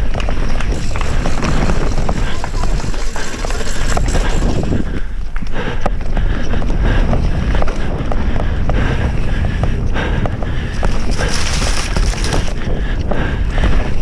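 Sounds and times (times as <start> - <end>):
bike rattling and clicking: 0.0 - 14.0
bike tyre noise: 0.0 - 14.0
wind on microphone: 0.0 - 14.0.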